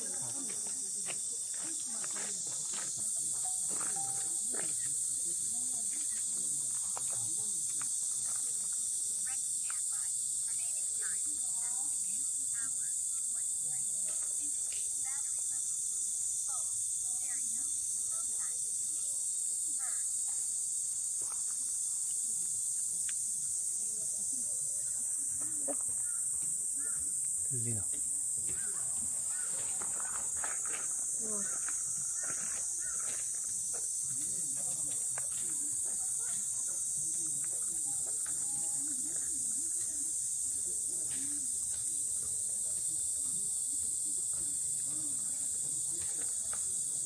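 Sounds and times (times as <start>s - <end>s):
faint voices talking: 0.0s - 47.0s
insects chirring: 0.0s - 47.0s.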